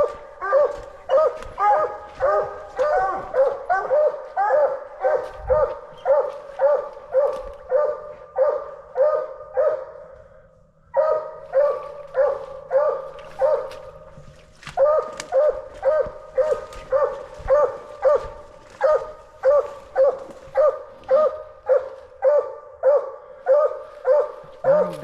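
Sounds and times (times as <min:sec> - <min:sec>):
dog barking: 0:00.0 - 0:10.2, 0:10.9 - 0:25.0.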